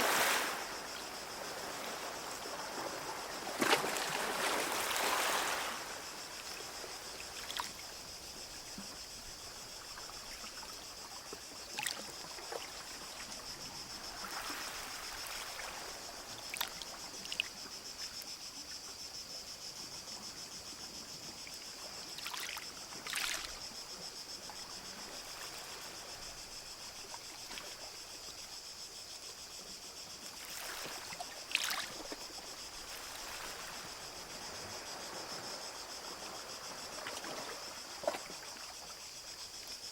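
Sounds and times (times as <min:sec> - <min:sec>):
small waves lapping at shore: 0:00.0 - 0:18.7, 0:20.9 - 0:28.4, 0:30.2 - 0:39.9
insects droning: 0:00.0 - 0:39.9.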